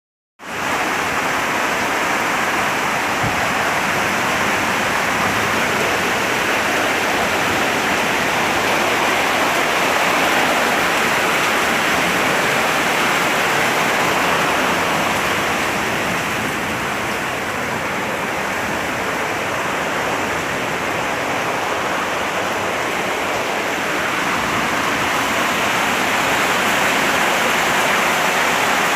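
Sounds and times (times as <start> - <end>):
water rushing: 0.4 - 28.9.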